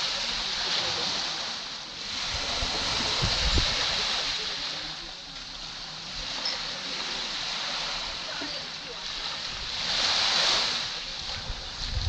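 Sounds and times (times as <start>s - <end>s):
waves breaking on sandy beach: 0.0s - 12.0s.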